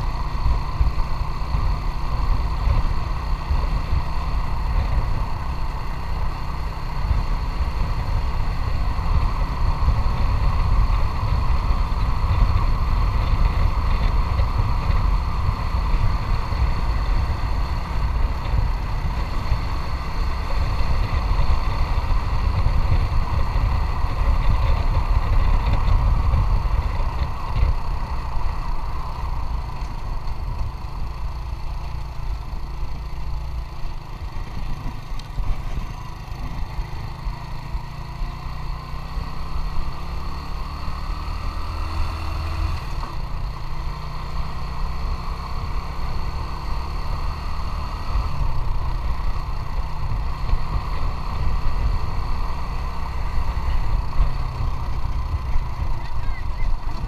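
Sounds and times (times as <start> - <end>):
motorcycle engine running: 0.0 - 57.0
wind rumble on microphone: 0.0 - 57.0.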